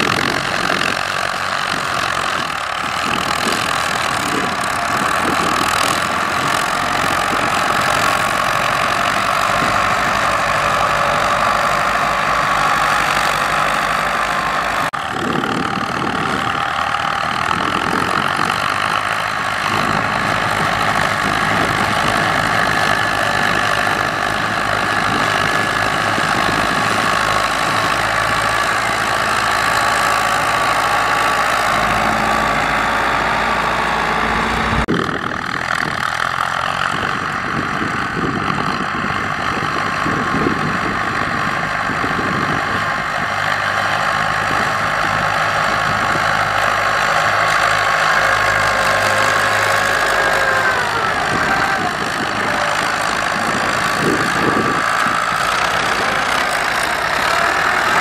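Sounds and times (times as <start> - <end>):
tractor diesel engines running: 0.0 - 58.0.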